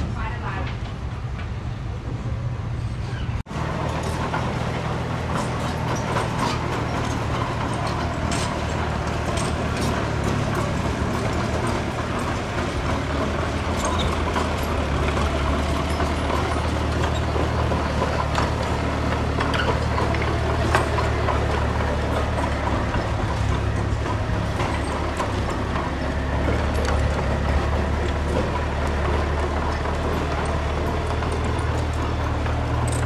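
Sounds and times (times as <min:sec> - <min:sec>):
diesel engine running: 0:00.0 - 0:33.0
clanks and rattles: 0:02.9 - 0:33.0.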